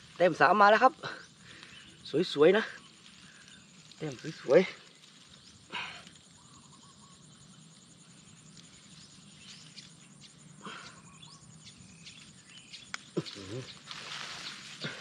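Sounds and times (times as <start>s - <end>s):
bird chirps: 1.1s - 15.0s.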